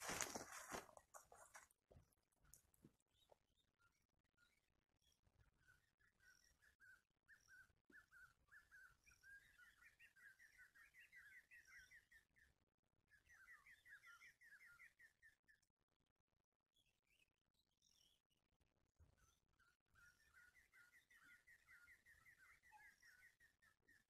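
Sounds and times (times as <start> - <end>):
small bird chirping: 2.1 - 15.8, 16.7 - 24.0.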